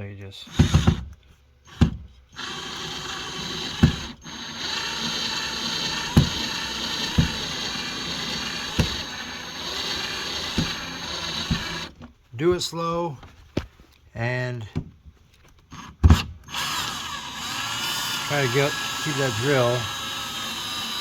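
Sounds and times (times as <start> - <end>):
cordless drill driving screws: 0.4 - 12.0, 15.7 - 21.0.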